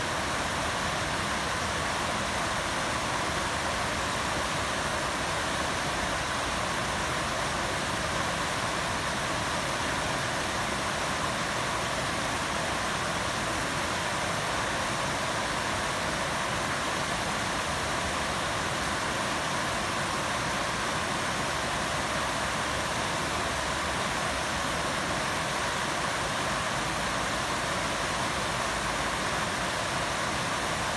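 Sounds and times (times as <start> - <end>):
running water rushing: 0.0 - 30.9.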